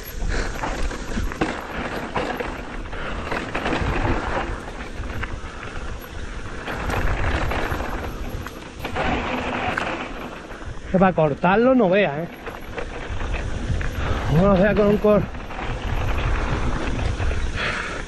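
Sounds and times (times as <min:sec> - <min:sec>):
mountain bike rumble on dirt: 0:00.0 - 0:18.0.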